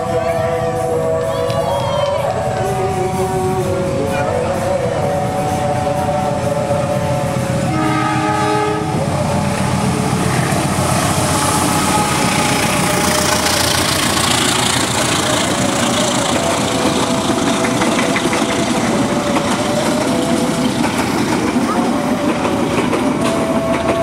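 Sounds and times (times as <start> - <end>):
hiss of wheels on rails: 0.0 - 24.0
train coaches rumbling past: 0.0 - 24.0
train horn chord: 0.0 - 24.0
rail clatter: 0.6 - 24.0.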